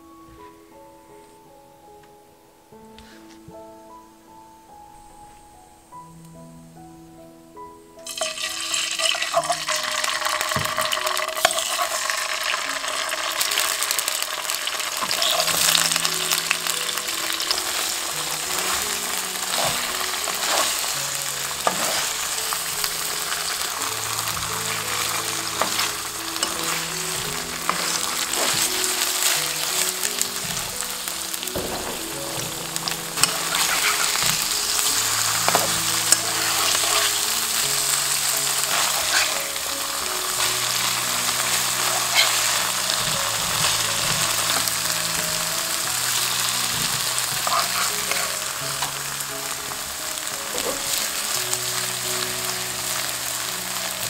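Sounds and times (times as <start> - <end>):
tofu sizzling in oil: 8.0 - 54.0.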